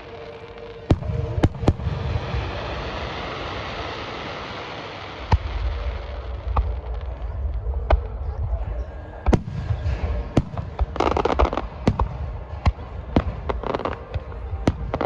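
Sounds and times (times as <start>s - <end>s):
low rumbling echo: 0.0s - 15.0s
steady background hiss: 0.0s - 15.0s.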